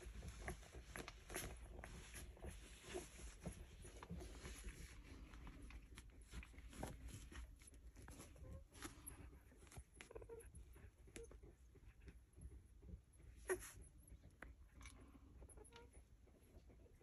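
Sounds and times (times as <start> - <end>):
puppies snuffling: 0.0 - 17.0.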